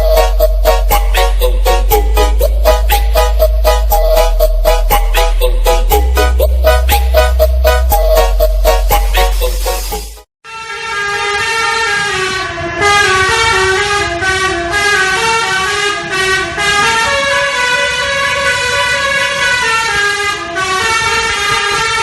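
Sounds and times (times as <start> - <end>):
multi-tone bus horn melody: 0.0 - 22.0.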